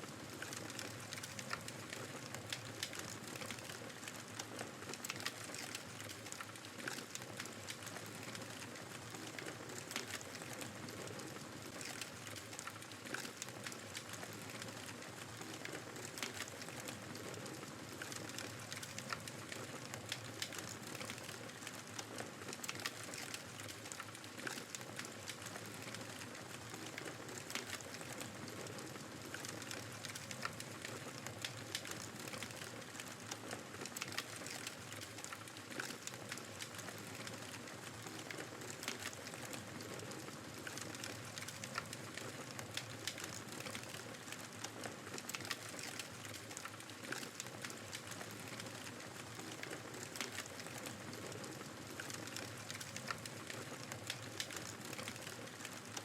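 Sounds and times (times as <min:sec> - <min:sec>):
fireplace crackling: 0:00.2 - 0:56.0.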